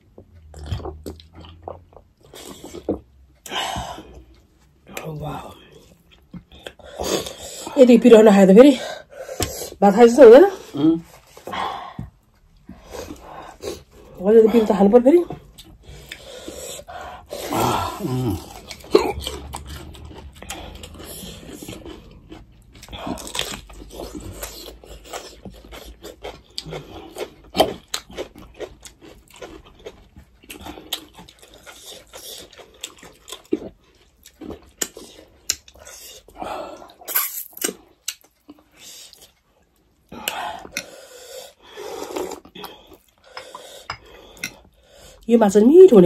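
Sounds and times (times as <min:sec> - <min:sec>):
people chewing and crunching: 0:00.0 - 0:07.8, 0:08.7 - 0:46.0.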